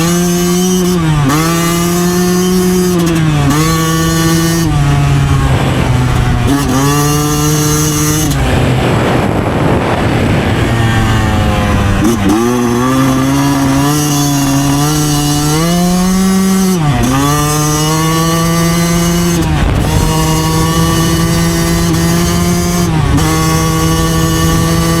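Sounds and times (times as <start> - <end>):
two-stroke engine running hard: 0.0 - 25.0.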